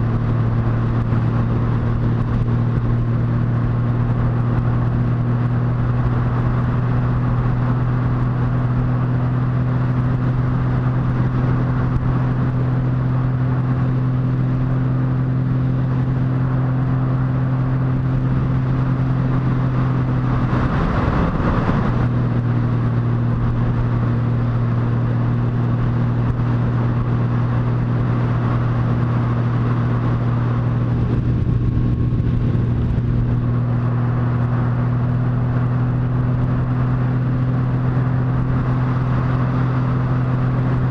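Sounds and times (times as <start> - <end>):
motorcycle engine cruising: 0.0 - 40.9
wind and road noise: 0.0 - 40.9.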